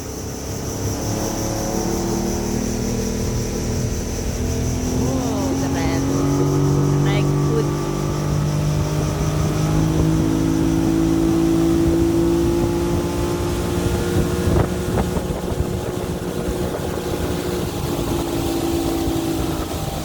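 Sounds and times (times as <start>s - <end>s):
motorboat engine running: 0.0s - 20.0s.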